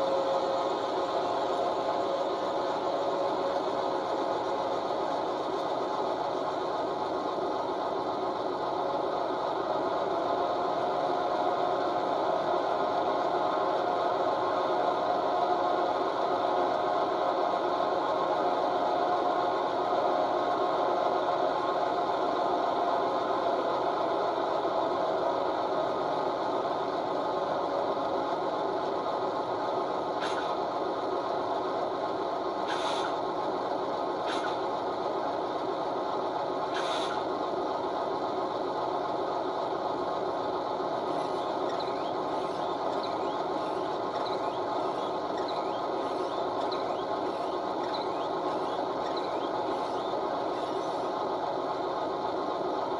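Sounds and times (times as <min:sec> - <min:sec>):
diesel engine idling through small speakers: 0:00.0 - 0:52.9.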